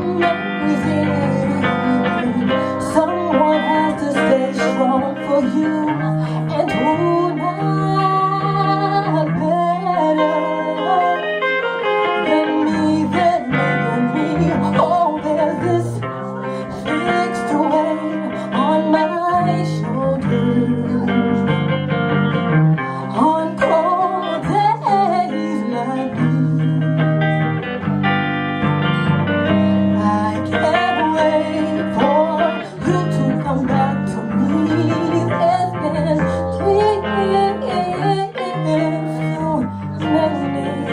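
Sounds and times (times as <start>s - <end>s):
guitar accompaniment: 0.0s - 40.9s.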